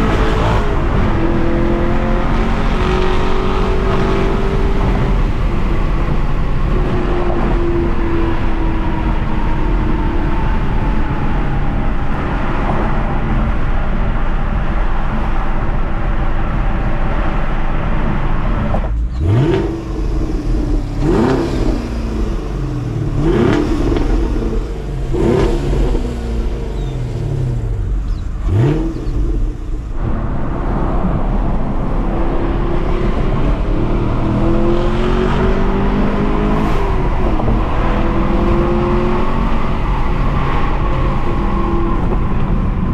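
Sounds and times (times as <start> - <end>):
car engine running and revving: 0.0 - 42.9.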